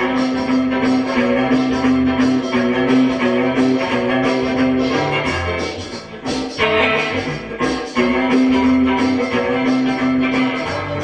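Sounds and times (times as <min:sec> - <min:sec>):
rhythmic music: 0:00.0 - 0:11.0.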